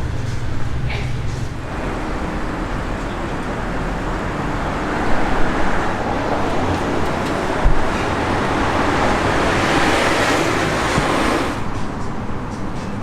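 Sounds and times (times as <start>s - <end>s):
car passing on street: 0.0s - 13.0s.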